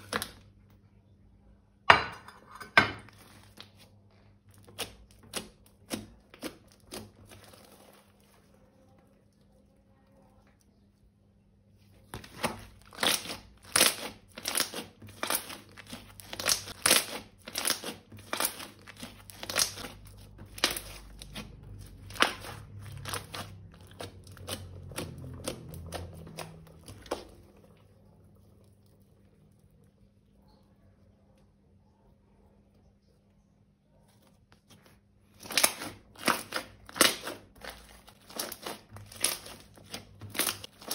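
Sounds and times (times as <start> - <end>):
slime crinkling and crackling: 0.0 - 0.6, 3.1 - 30.6, 34.0 - 40.9.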